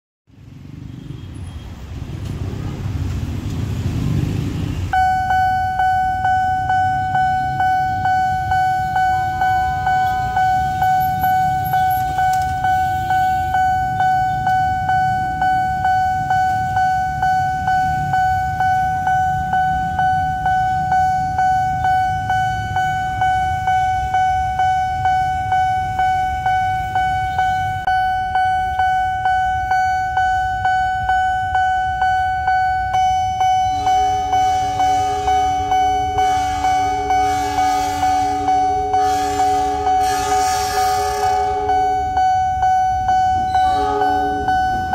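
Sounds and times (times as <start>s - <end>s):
road traffic: 0.3s - 44.9s
level-crossing warning bell ringing: 4.8s - 44.9s.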